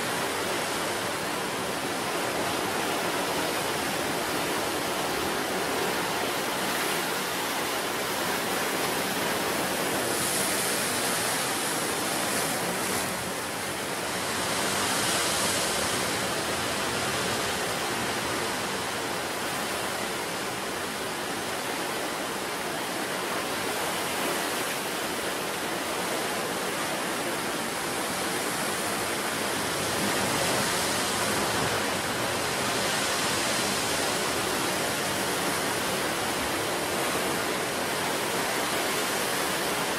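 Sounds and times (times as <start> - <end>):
sea surf on shore: 0.0 - 39.9.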